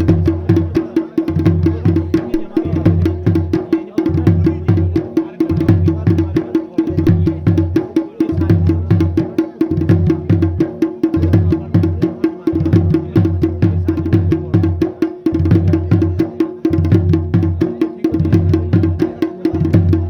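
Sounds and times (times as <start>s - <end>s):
drumming: 0.0s - 20.0s.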